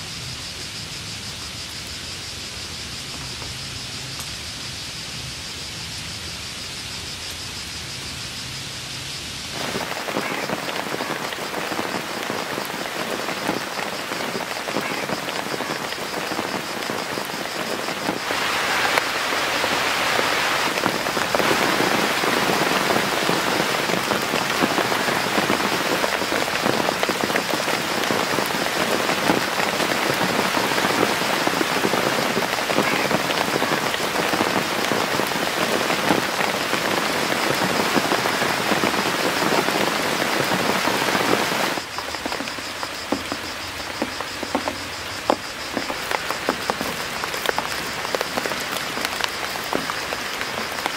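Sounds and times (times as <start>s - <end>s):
rain pattering: 0.8s - 50.9s.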